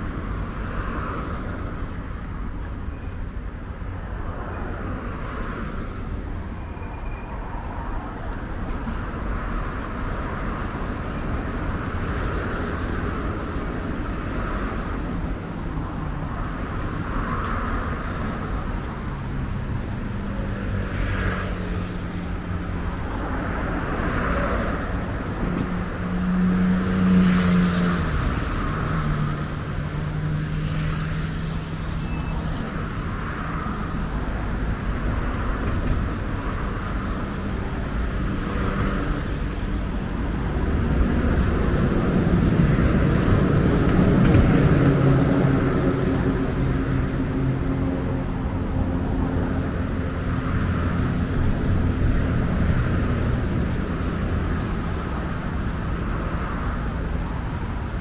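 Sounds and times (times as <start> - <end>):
road traffic passing: 0.0 - 58.0
vehicle engine hum: 0.0 - 58.0.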